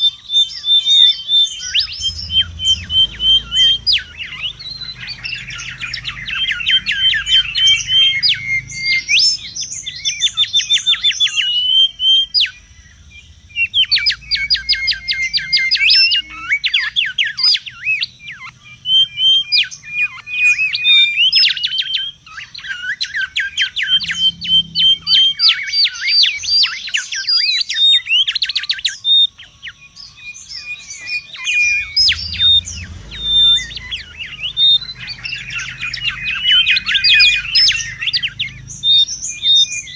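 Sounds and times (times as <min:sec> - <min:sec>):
bird singing sharp whistles: 0:00.0 - 0:39.9.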